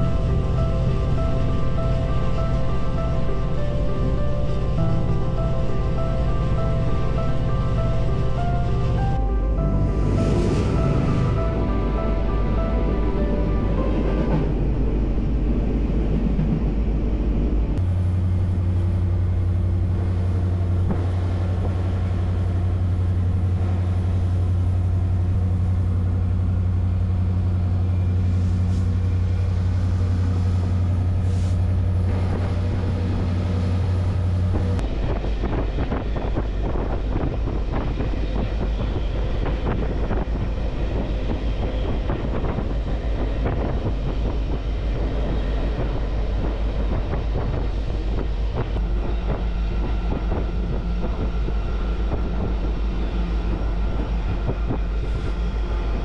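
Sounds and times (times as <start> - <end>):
diesel locomotive engine drone: 0.0 - 56.0
wheels rumbling on track: 0.0 - 56.0.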